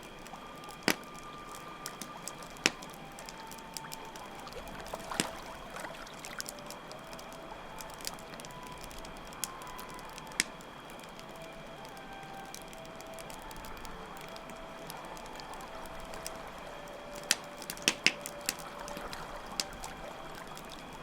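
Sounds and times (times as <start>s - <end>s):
campfire crackling and popping: 0.0s - 21.0s
crickets droning: 0.0s - 21.0s
trickling water: 0.0s - 21.0s.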